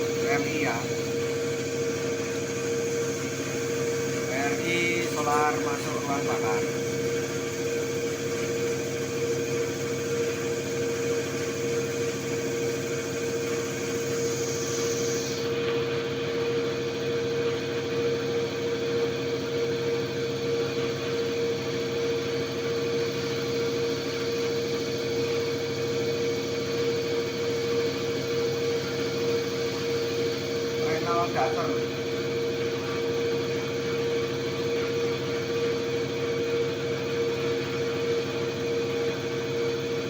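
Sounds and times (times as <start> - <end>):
machine drone with whine: 0.0 - 40.0.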